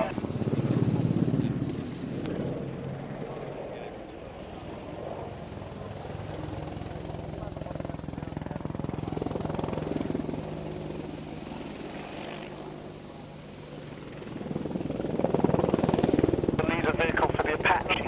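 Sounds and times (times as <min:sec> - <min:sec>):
helicopter rotor blades chopping: 0:00.0 - 0:18.0.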